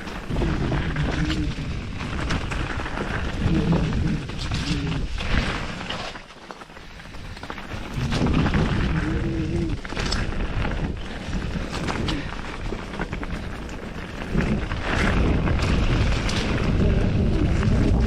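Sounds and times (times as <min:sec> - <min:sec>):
bike riding rumble: 0:00.0 - 0:18.0
heavy wind: 0:00.0 - 0:18.0.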